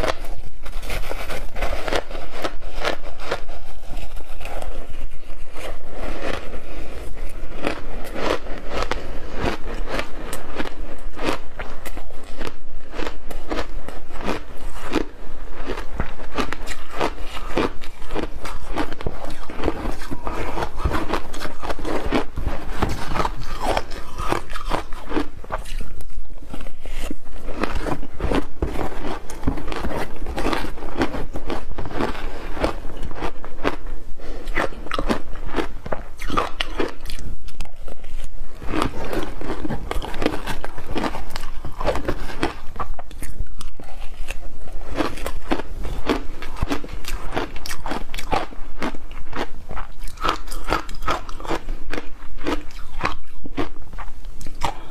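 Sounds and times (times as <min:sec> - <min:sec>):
ice crunching while chewed: 0:00.0 - 0:54.9.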